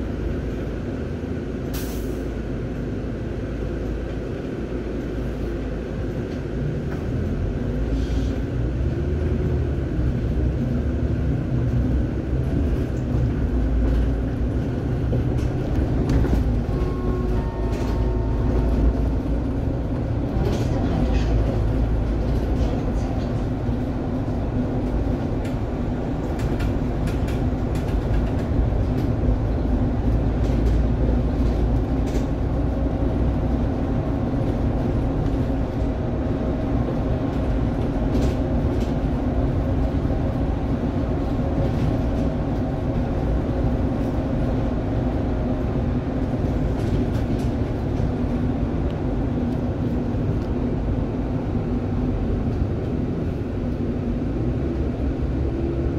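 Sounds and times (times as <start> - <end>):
bus engine and road noise drone: 0.0 - 55.9.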